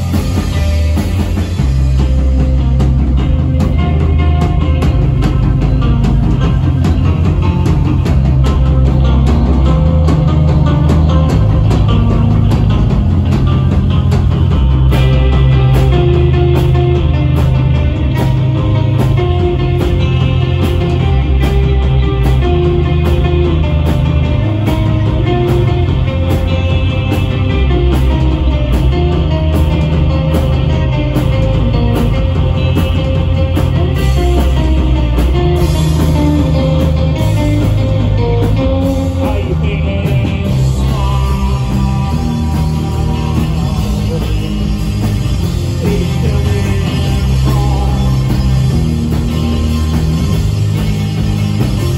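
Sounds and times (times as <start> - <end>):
bass guitar: 0.0 - 51.9
drum kit beat: 0.0 - 51.9
electric guitar: 0.0 - 51.9.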